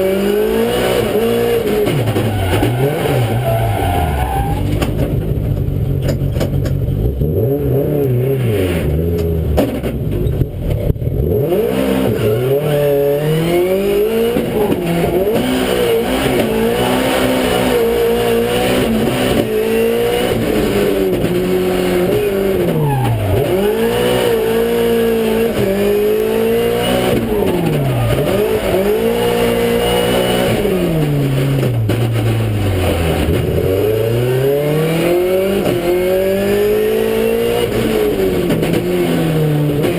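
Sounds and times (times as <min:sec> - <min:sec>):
race car engine revving: 0:00.0 - 0:05.4, 0:10.7 - 0:39.9.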